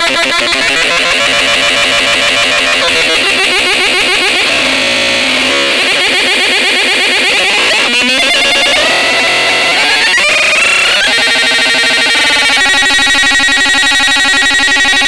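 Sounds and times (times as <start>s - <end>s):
warbling synthesizer tones: 0.9s - 15.0s.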